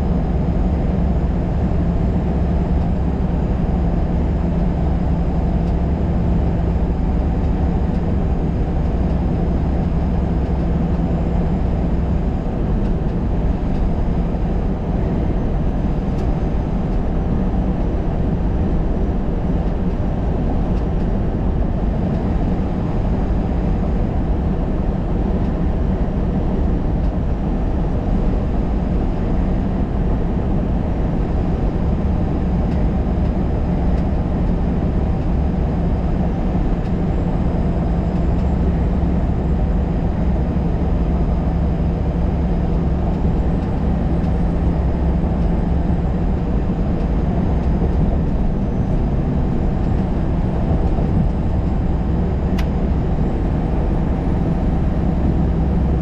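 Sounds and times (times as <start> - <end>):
vehicle engine and tyre drone: 0.0 - 56.0.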